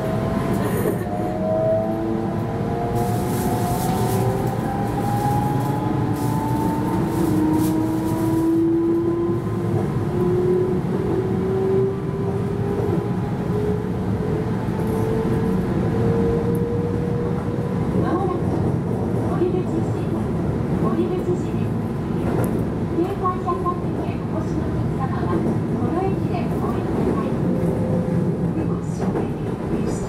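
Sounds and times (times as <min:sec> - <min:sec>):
wheels rumbling on rails: 0:00.0 - 0:30.0.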